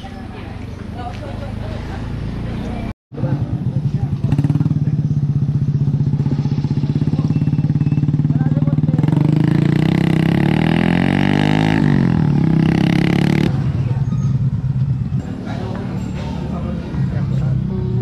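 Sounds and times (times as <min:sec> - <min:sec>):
second engine passing: 0:00.1 - 0:18.0
motorcycle engine droning: 0:01.4 - 0:18.0.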